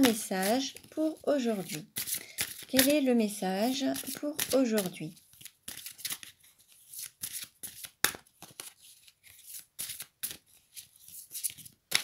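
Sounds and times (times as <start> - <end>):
cards being shuffled by hand: 0.0 - 12.0.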